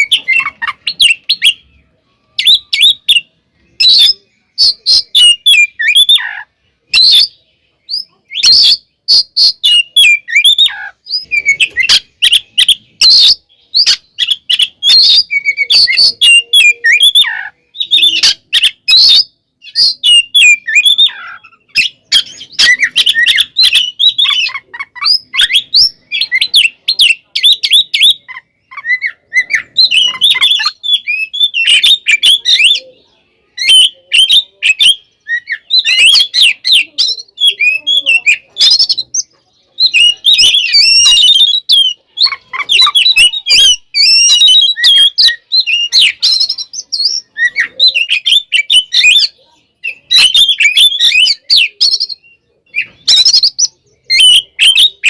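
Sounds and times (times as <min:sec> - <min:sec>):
bird singing fast varied chirps: 0:00.0 - 0:55.0.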